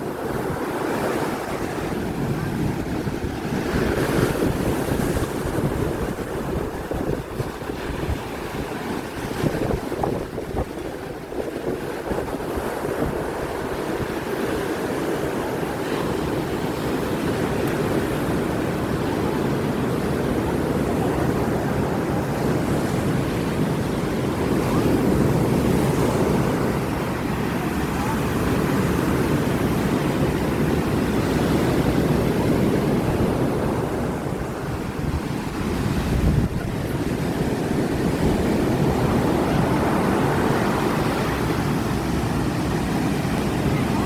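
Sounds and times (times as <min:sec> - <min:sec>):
sea surf breaking: 0:00.0 - 0:44.0
wind buffeting microphone: 0:00.0 - 0:44.0.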